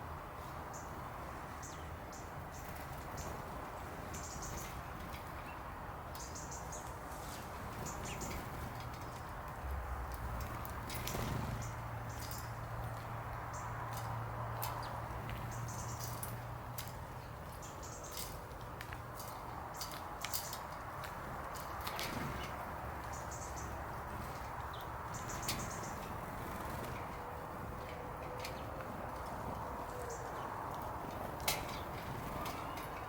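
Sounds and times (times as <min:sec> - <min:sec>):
steady outdoor hiss: 0:00.0 - 0:33.0
small birds chirping: 0:00.4 - 0:33.0.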